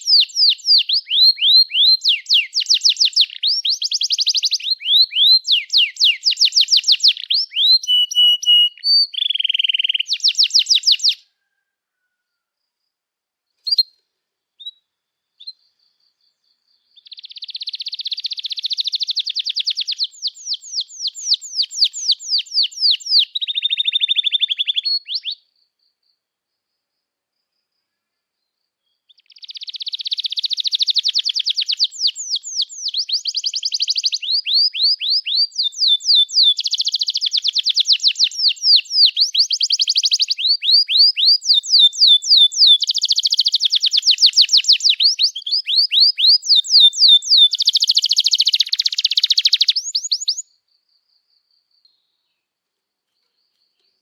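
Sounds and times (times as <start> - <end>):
canary singing trills: 0.0 - 11.6, 13.6 - 14.0, 14.6 - 25.6, 28.9 - 50.6.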